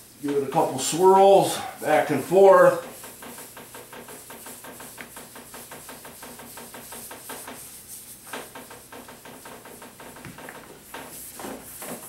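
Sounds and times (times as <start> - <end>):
cloth rubbing wax into wood: 0.2 - 12.0.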